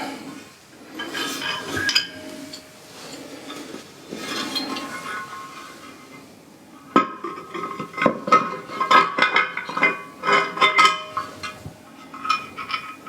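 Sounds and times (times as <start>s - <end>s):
metal tripod parts clinking: 1.0s - 5.9s, 7.2s - 13.0s.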